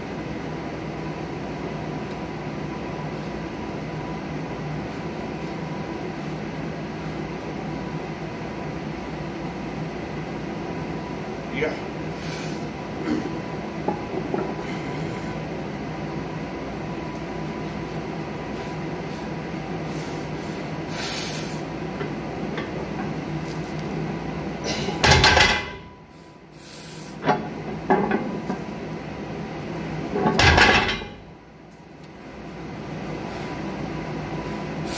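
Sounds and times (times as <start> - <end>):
ventilation drone: 0.0 - 34.9.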